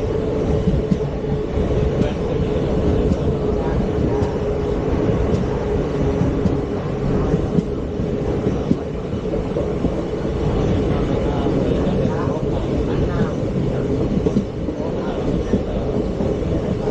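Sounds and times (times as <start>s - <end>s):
train coach rumbling and rattling: 0.0s - 16.9s.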